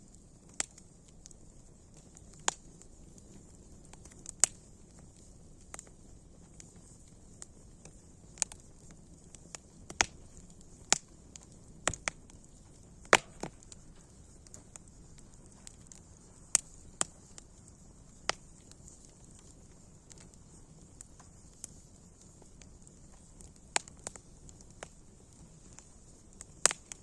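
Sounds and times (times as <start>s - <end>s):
campfire crackling and popping: 0.0s - 27.0s
faint steady hiss: 0.0s - 27.0s.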